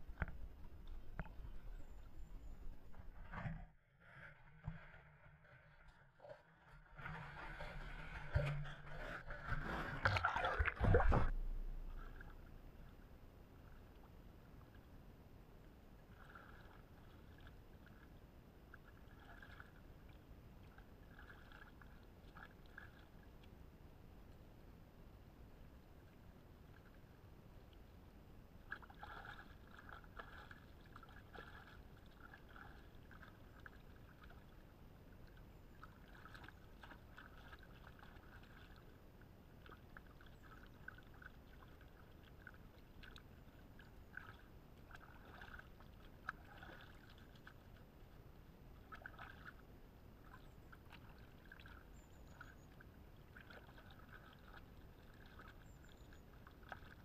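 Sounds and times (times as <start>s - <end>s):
water sloshing and splashing: 0.0s - 15.0s, 16.0s - 23.6s, 28.6s - 57.0s.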